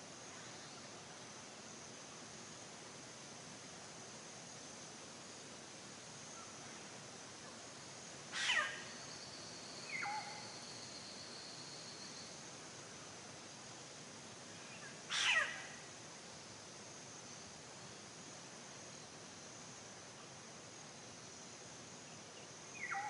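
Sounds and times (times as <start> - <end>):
background hiss: 0.0 - 23.0.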